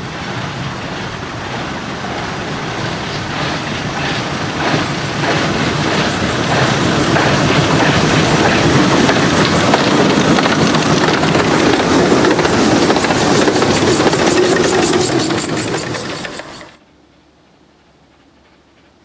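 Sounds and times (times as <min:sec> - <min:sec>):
steam train wheels on rails: 0:00.0 - 0:16.8, 0:17.7 - 0:19.0.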